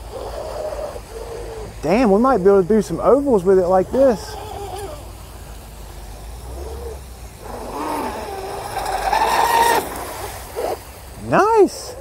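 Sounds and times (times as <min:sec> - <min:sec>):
electric boat motor whining: 0:00.0 - 0:11.0.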